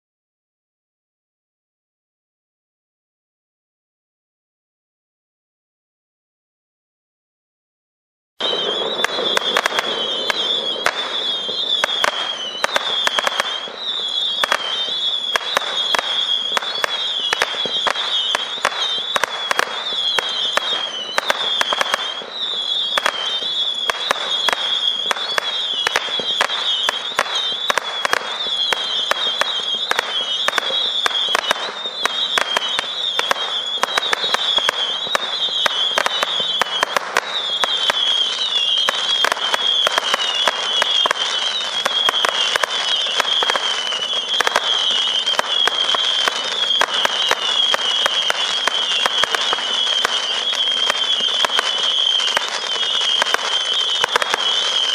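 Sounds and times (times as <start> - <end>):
fireworks sharp pops and crackles: 8.4 - 54.9
high whistle of fireworks: 8.4 - 54.9.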